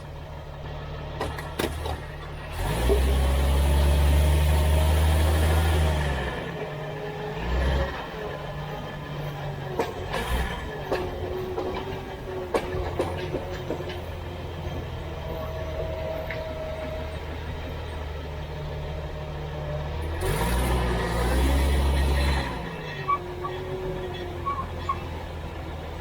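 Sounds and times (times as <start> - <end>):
car drivetrain hum: 0.0 - 26.0
road noise: 0.0 - 26.0.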